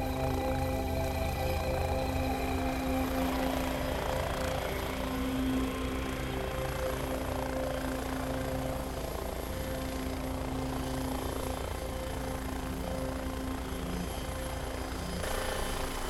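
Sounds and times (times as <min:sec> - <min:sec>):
helicopter engine whine: 0:00.0 - 0:16.0.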